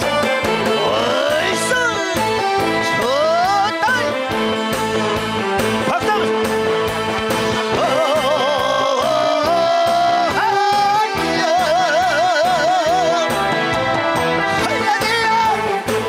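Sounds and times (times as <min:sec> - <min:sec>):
steady drum beat: 0:00.0 - 0:16.0
trot song with vibrato vocals: 0:00.0 - 0:16.0.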